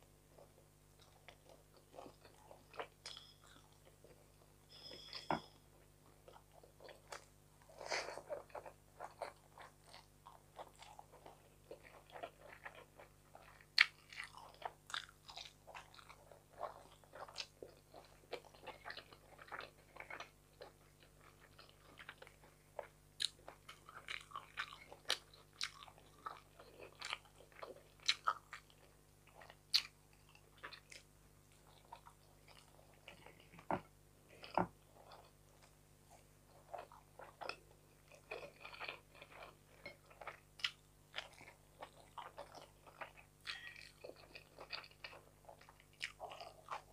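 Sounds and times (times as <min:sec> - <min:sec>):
chewing with wet mouth clicks: 0:06.2 - 0:33.7, 0:36.5 - 0:46.9.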